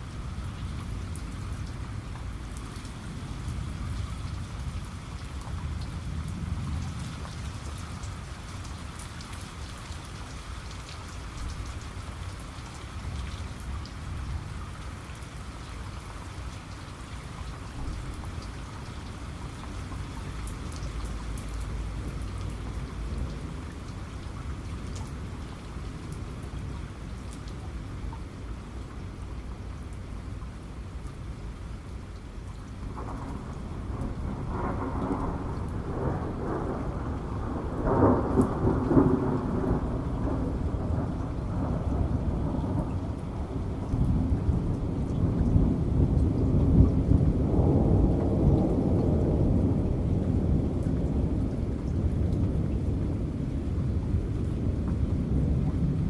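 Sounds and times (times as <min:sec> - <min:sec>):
low rumble of thunder: 0:00.0 - 0:31.8, 0:32.4 - 0:56.0
heavy rain falling: 0:00.0 - 0:56.0.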